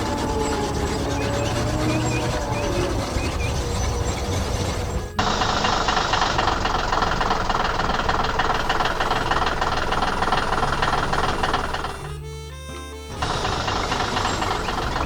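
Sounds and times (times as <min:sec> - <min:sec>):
heavy machine engine rattling: 0:00.0 - 0:15.0
steady tones: 0:00.0 - 0:15.0.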